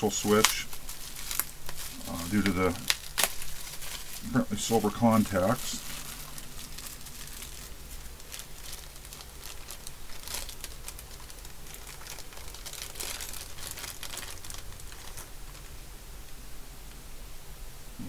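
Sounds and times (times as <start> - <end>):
plastic bag crinkling: 0.0 - 15.8.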